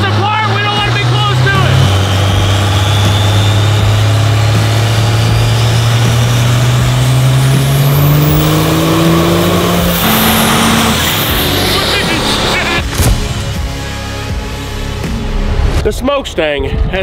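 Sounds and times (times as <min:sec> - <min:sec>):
diesel engine running hard: 0:00.0 - 0:15.0
turbocharger whine: 0:00.0 - 0:15.8.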